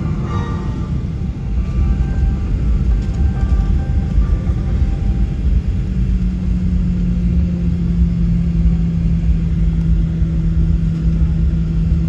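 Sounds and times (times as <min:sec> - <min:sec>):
aircraft cabin low rumble: 0:00.0 - 0:12.0
steady engine hum: 0:00.0 - 0:12.0.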